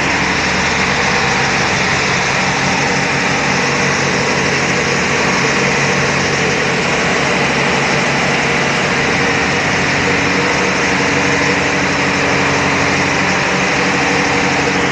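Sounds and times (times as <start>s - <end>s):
engine room machinery din: 0.0s - 14.9s.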